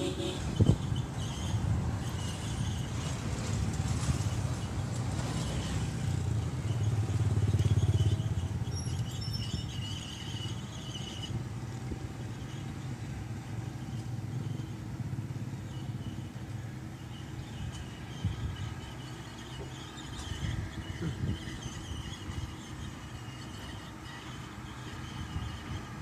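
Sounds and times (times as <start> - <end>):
bulldozer diesel engine: 0.0 - 26.0.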